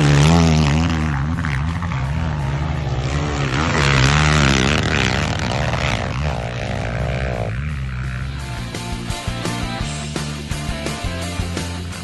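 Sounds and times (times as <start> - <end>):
quad engine revving hard: 0.0 - 12.0.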